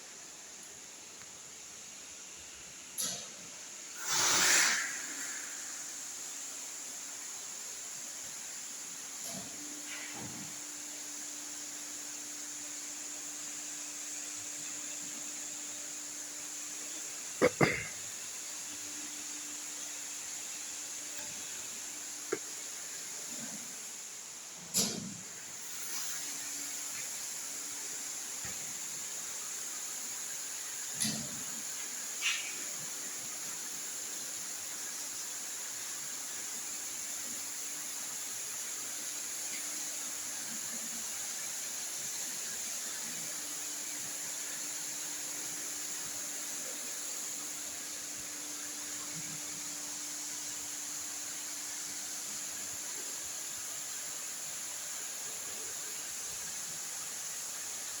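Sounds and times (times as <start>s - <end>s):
machinery hiss and hum: 0.0s - 58.0s.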